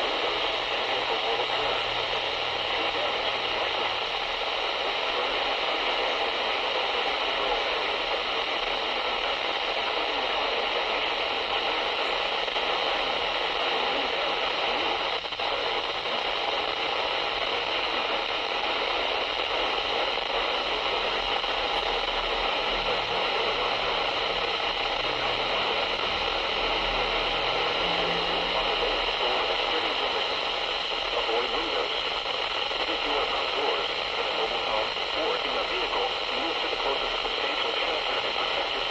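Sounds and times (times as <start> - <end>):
radio static hiss: 0.0 - 38.9.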